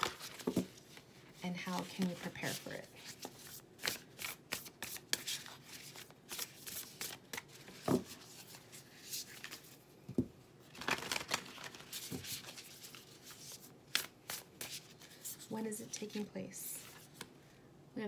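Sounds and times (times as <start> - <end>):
cards being shuffled: 1.7 - 9.8, 10.7 - 17.3.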